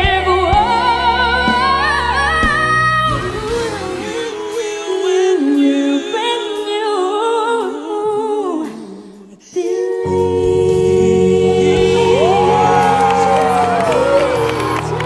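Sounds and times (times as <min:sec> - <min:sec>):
soft backing music: 0:00.0 - 0:15.0
woman and man singing pop duet: 0:00.0 - 0:15.0.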